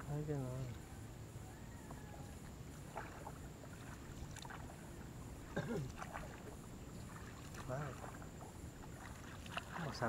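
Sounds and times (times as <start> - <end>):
wind and water: 0.0 - 10.0
paddle strokes in water: 1.8 - 10.0.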